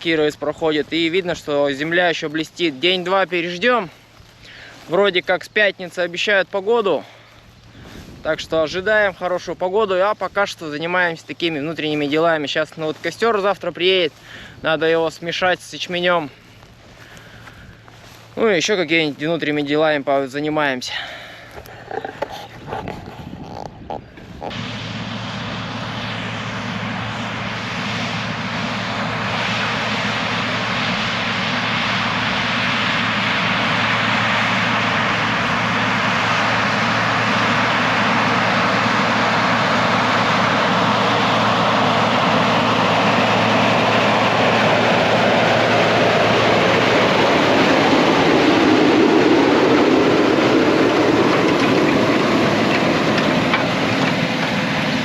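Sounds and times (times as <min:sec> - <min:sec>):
heavy vehicle engine running: 0:00.0 - 0:14.6, 0:15.3 - 0:18.8, 0:20.9 - 0:55.0.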